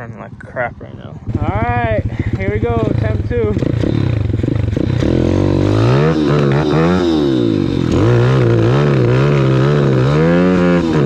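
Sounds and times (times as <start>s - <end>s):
pit bike engine revving unevenly: 1.2s - 11.0s.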